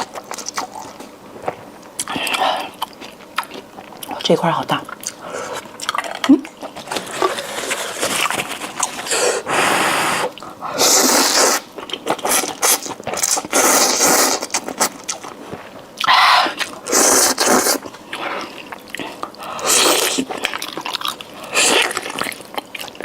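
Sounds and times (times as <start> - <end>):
chewing and mouth sounds: 0.0 - 9.1, 10.3 - 23.0.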